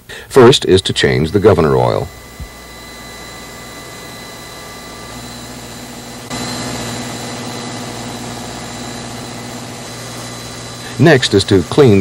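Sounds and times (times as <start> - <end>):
engine-room machinery drone: 0.0 - 12.0
thin whining tones: 0.0 - 12.0.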